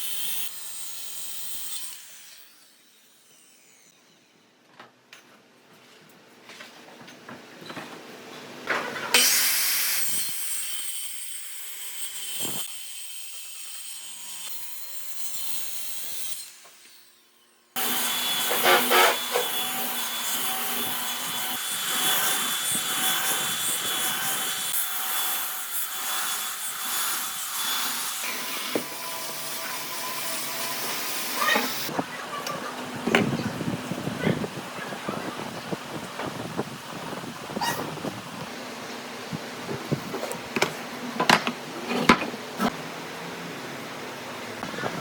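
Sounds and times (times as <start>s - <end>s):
loud woodworking tool noise: 8.6s - 45.0s.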